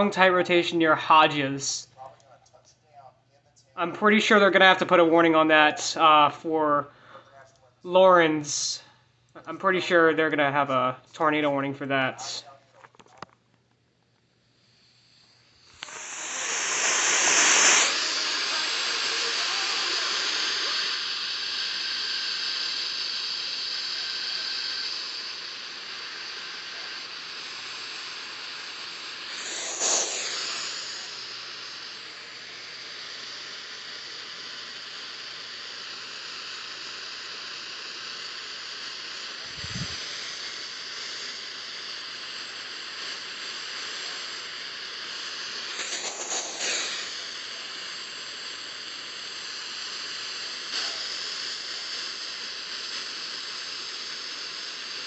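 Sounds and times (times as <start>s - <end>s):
radio static hiss: 0.0s - 13.5s, 14.2s - 55.0s.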